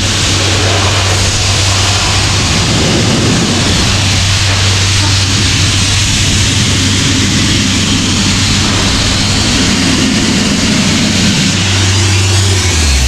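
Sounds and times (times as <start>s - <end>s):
air compressor engine humming: 0.0s - 13.0s
compressed air blowpipe blasting: 0.0s - 13.0s.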